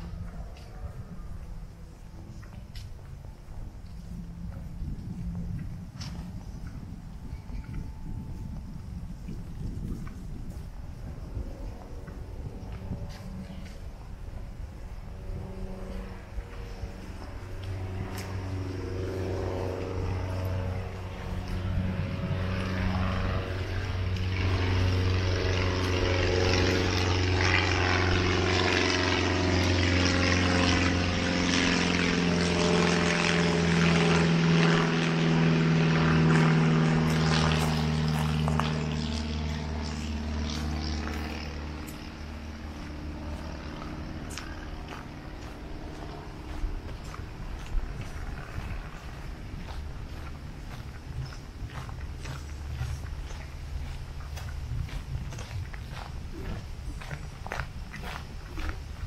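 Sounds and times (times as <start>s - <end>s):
propeller airplane engine drone: 0.0s - 59.0s.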